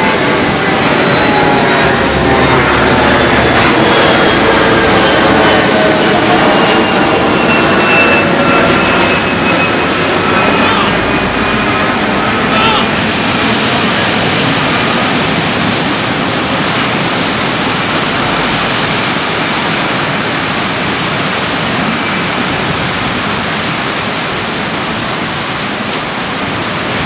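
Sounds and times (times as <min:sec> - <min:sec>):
heavy surf breaking: 0:00.0 - 0:27.0.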